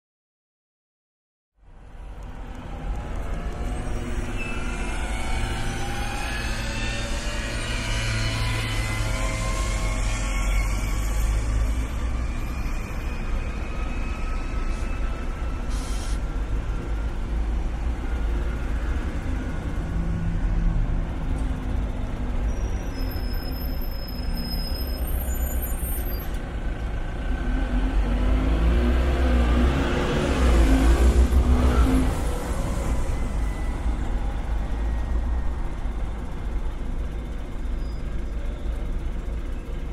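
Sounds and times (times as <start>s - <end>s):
traffic engines rumbling: 1.6s - 39.9s.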